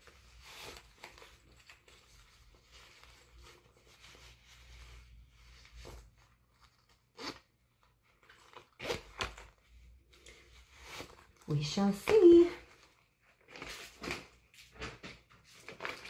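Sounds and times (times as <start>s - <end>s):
fabric gloves rustling: 0.0s - 16.0s.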